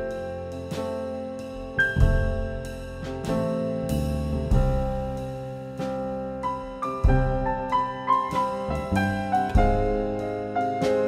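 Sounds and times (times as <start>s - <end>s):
piano chords: 0.0s - 11.0s
plucked double bass: 0.0s - 11.0s.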